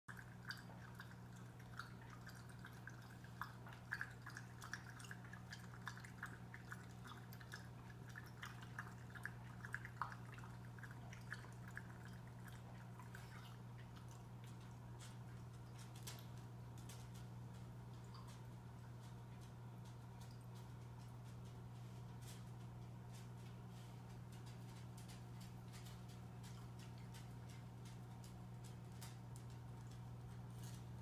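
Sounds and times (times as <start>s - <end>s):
steady low hum: 0.1s - 31.0s.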